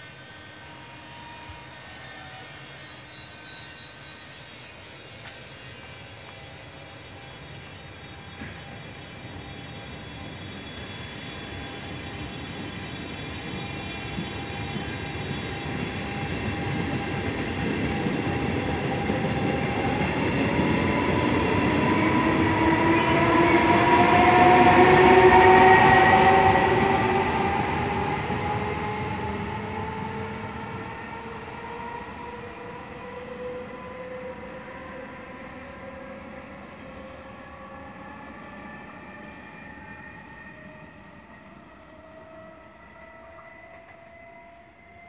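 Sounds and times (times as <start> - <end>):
electric locomotive whine: 0.0 - 45.0
train wheels rumbling: 5.1 - 44.2.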